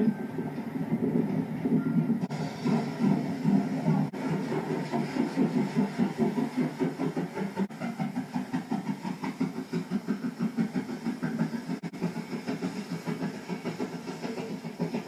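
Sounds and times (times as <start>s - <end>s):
steam engine chuffing: 0.0s - 15.0s
steam hiss: 0.8s - 15.0s.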